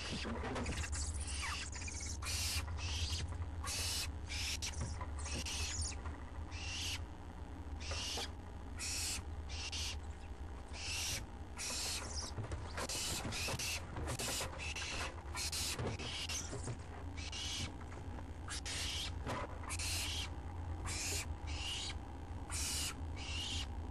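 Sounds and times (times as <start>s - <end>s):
owlets raspy begging calls: 0.0s - 7.1s, 7.8s - 10.0s, 10.7s - 17.8s, 18.5s - 23.8s
steady low hum: 0.0s - 23.9s.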